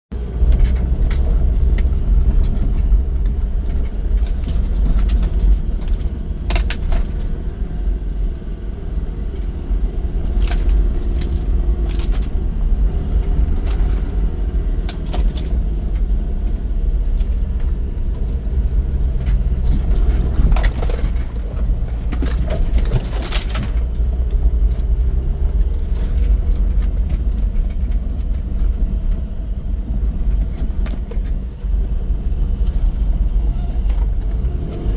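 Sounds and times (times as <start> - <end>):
off-road vehicle engine rumble: 0.0 - 34.9
vehicle knocks and rattles: 0.1 - 34.9.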